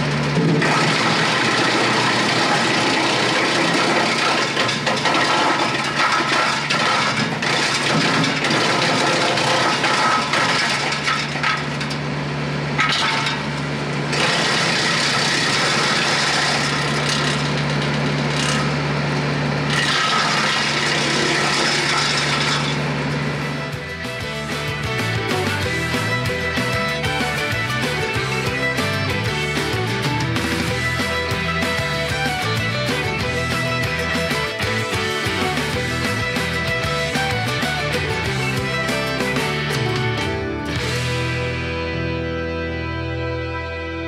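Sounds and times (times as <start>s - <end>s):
wood chipper crunching branches: 0.0s - 41.6s
tractor engine running: 0.0s - 43.2s.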